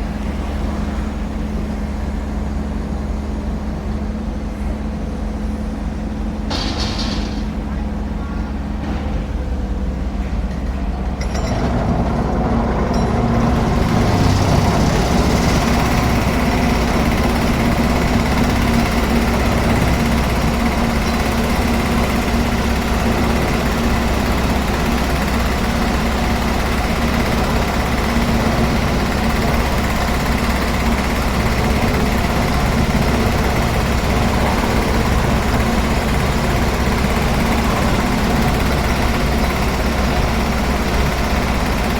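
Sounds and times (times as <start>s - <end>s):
diesel engine humming: 0.0s - 41.9s.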